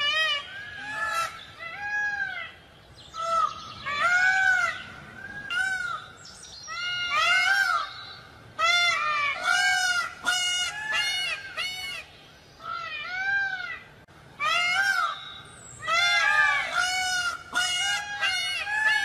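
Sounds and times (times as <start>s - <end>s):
peacocks honking calls: 0.0s - 19.0s.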